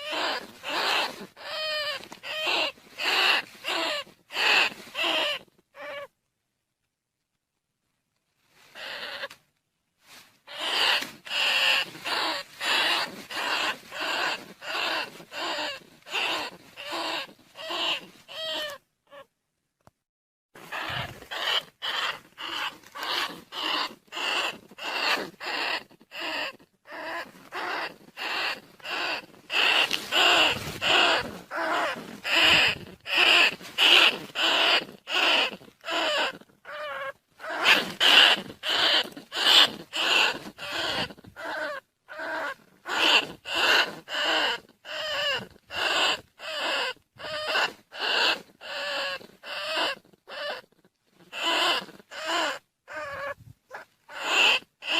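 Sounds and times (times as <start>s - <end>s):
rat squeals: 0.0s - 6.1s, 8.7s - 9.4s, 10.5s - 19.3s, 20.6s - 54.9s.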